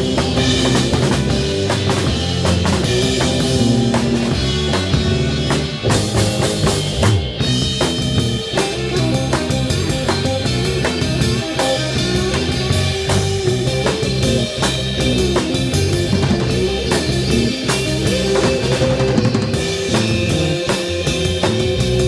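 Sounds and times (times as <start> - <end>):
drum kit steady beat: 0.0 - 22.0
electric bass: 0.0 - 22.0
electric guitar: 0.0 - 22.0.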